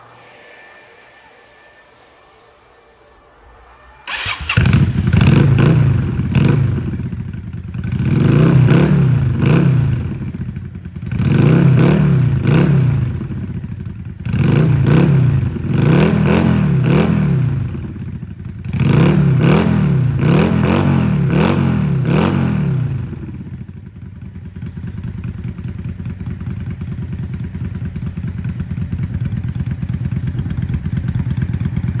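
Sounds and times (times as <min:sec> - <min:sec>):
motorcycle engine revving and idling: 0:04.1 - 0:32.0.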